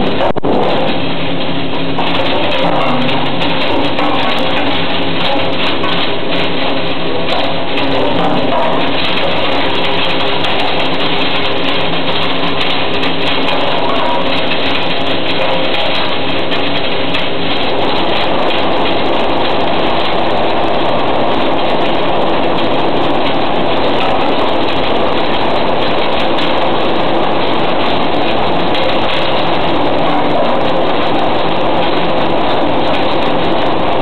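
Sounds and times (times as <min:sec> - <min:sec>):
machine motor hum: 0:00.0 - 0:34.0.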